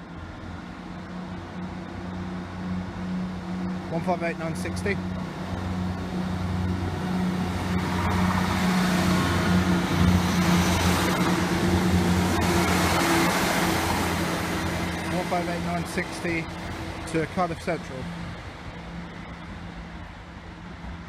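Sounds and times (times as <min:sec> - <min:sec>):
diesel train engines droning: 0:00.0 - 0:21.0
wheel-on-rail noise: 0:00.0 - 0:21.0.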